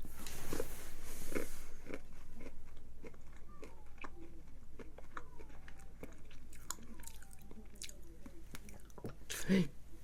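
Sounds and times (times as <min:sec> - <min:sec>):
person chewing crunchy food: 0:00.0 - 0:09.1.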